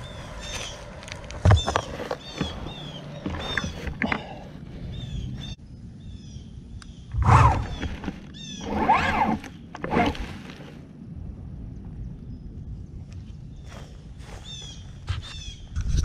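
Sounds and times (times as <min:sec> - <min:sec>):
small birds chirping: 0:00.0 - 0:09.9, 0:12.0 - 0:15.8.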